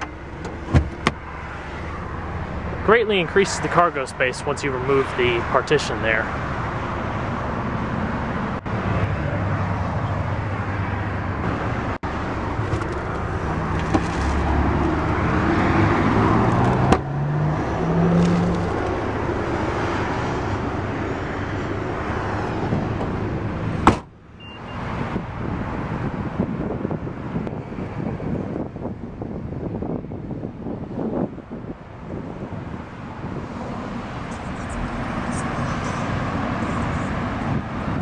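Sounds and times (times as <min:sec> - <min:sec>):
low engine hum: 0:00.0 - 0:05.5, 0:06.2 - 0:38.0
cars passing on road: 0:00.0 - 0:38.0.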